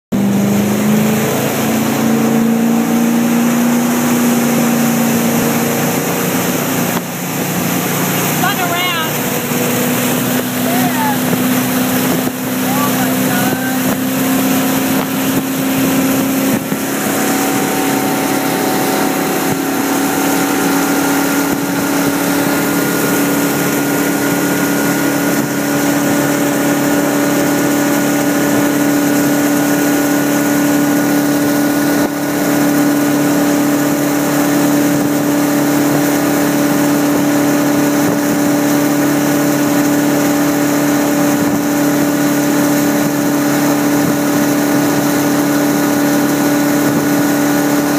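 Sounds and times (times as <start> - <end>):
boat engine running: 0.1 - 47.9.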